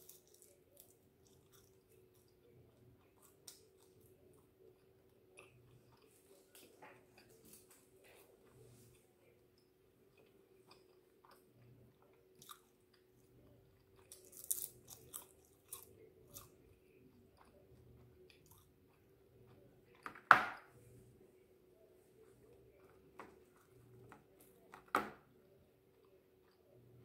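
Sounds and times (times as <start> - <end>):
chewing and crunching: 0.0 - 20.1, 22.2 - 27.0.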